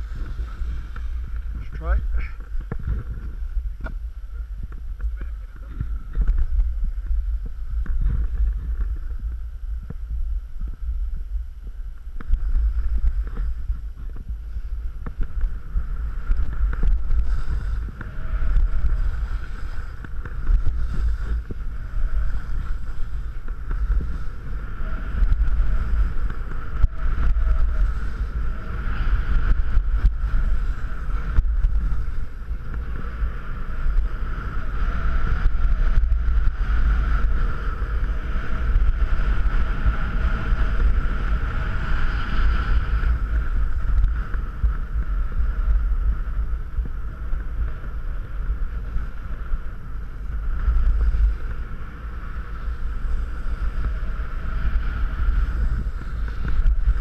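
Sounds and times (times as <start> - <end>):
snowboard scraping over snow: 0.0 - 57.0
wind buffeting microphone: 0.0 - 57.0.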